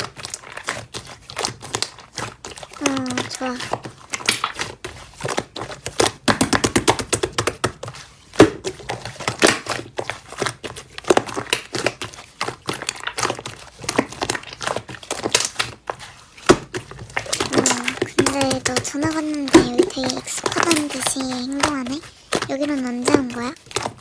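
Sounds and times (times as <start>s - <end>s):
slime squished by hand: 0.0s - 24.0s.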